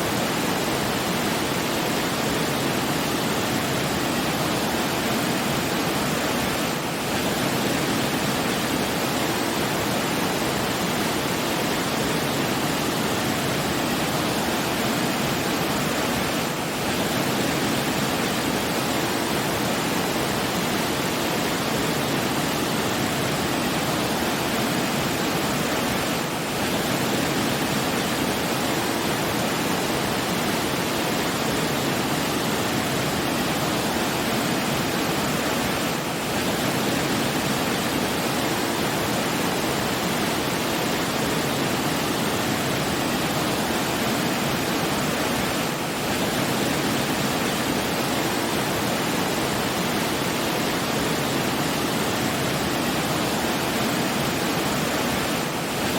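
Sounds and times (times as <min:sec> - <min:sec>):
rushing falling water: 0:00.0 - 0:55.9.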